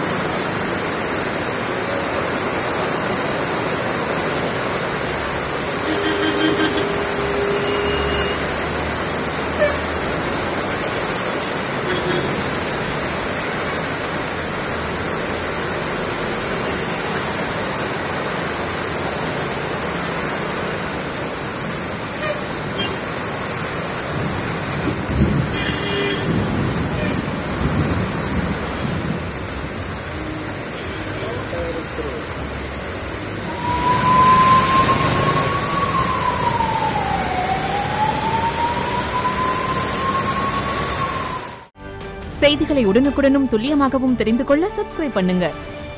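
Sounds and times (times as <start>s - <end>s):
cars driving through floodwater: 0.0s - 41.7s
heavy rain: 0.0s - 43.2s.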